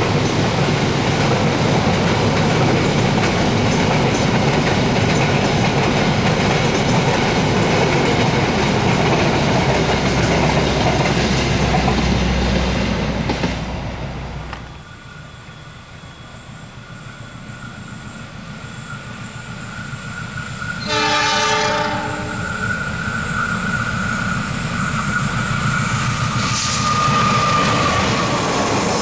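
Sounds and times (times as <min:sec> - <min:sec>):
train wheels on rail: 0:00.0 - 0:29.0.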